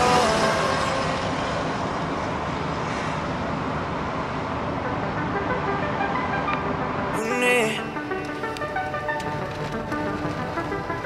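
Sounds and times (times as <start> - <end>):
car engine and tyre noise: 0.0 - 7.2, 7.8 - 11.0.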